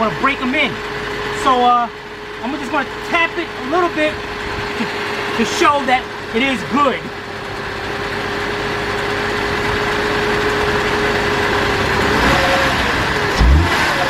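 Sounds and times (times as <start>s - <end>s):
car engine running with whine: 0.0s - 14.0s.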